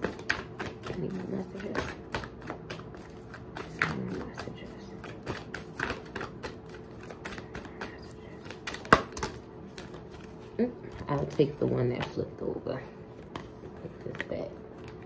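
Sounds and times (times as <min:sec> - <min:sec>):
cards being shuffled: 0:00.0 - 0:12.2.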